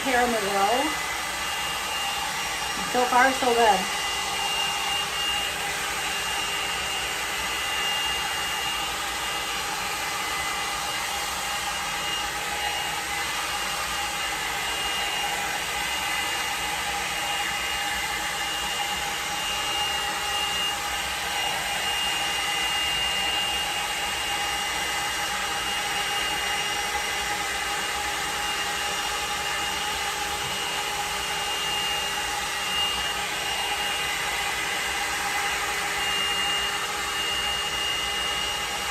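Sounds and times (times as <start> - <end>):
hot-air brush fan whine: 0.0 - 38.9.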